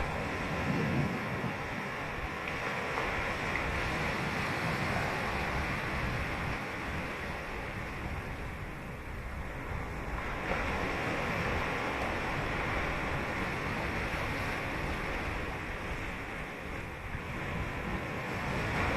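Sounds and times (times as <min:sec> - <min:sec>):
ocean surf on beach: 0:00.0 - 0:18.9.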